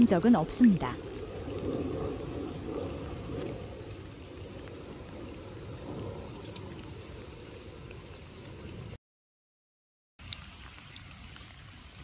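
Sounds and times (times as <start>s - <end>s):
water trickling into a pool: 0.0s - 9.0s, 10.2s - 12.0s.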